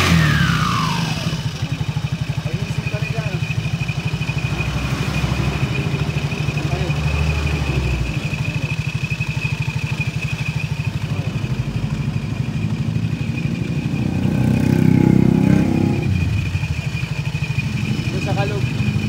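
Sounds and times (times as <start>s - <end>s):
scooter engine running: 0.0s - 19.0s.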